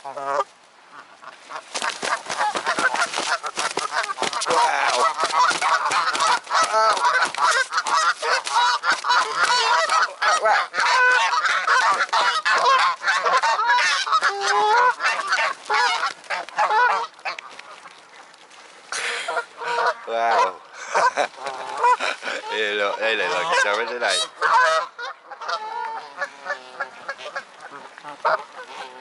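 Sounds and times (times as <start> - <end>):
geese honking: 0.0 - 17.9, 18.9 - 29.0.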